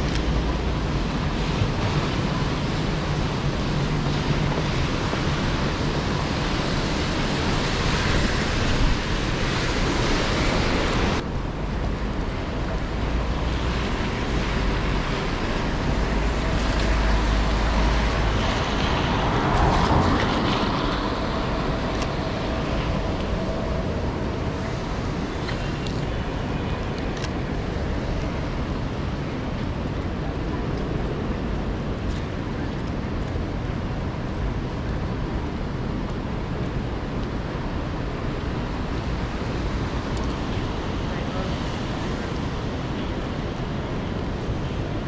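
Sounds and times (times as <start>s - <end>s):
traffic: 0.0s - 45.0s
tyres on wet road: 0.0s - 45.0s.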